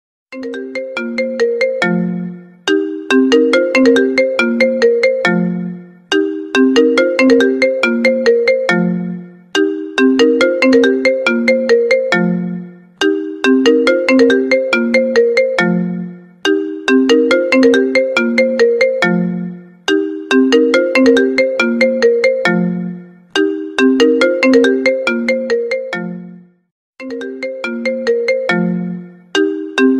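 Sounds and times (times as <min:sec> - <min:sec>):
phone ringtone melody: 0:00.4 - 0:29.9.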